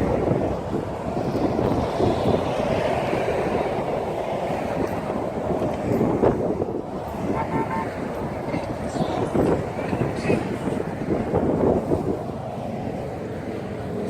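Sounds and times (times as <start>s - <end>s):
wind gusts buffeting microphone: 0.0s - 14.0s.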